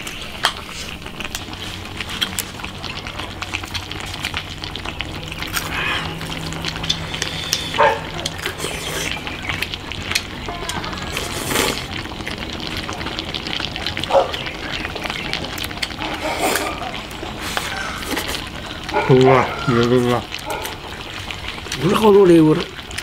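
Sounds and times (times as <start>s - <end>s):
slurping: 0.0s - 22.0s.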